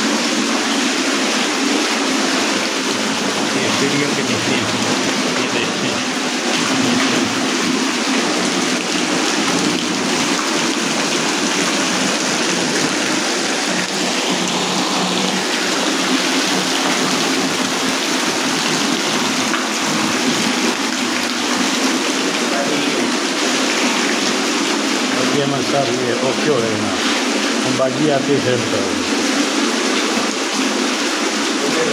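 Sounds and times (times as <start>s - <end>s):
fountain water splashing: 0.0s - 31.9s.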